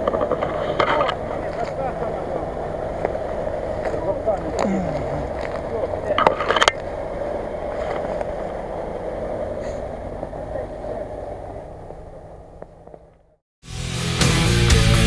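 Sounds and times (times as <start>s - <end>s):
suv engine running: 0.0s - 15.0s.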